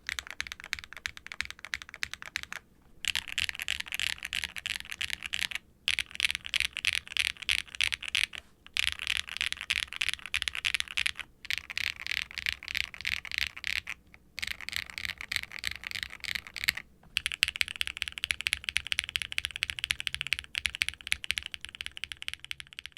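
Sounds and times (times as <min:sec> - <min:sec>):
mechanical keyboard typing: 0:00.0 - 0:22.9.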